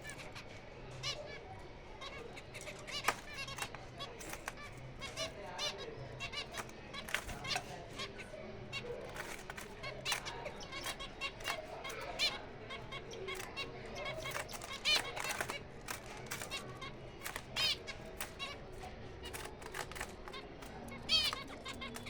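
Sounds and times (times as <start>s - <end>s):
finches chirping and calling: 0.0s - 22.0s.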